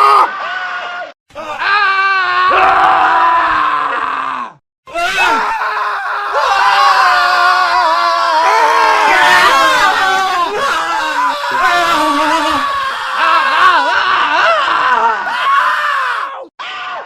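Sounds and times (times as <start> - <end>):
men screaming: 0.0 - 17.0.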